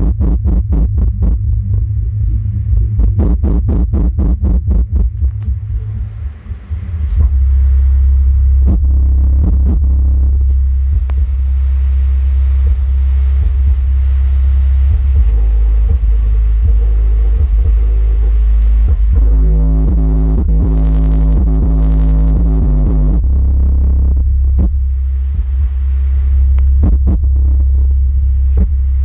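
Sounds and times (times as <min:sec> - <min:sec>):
deep subwoofer bass: 0:00.0 - 0:29.0.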